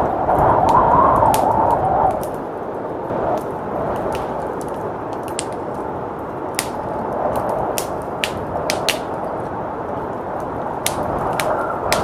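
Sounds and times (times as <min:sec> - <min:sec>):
blizzard wind blowing: 0:00.0 - 0:12.0
fireplace fire crackling: 0:00.0 - 0:12.0.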